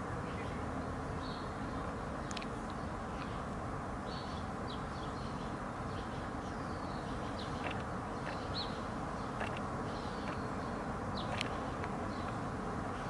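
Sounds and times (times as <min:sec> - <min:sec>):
small birds chirping: 0:00.0 - 0:13.0
steady background noise: 0:00.0 - 0:13.0.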